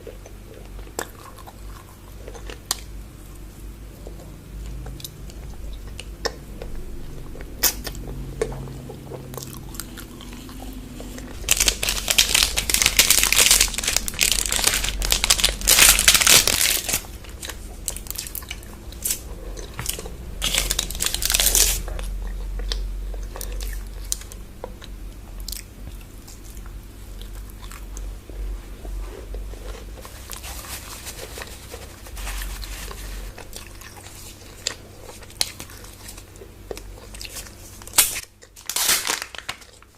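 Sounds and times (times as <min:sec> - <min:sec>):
crunchy chocolate bites and chewing: 0:00.0 - 0:03.0, 0:04.0 - 0:39.9.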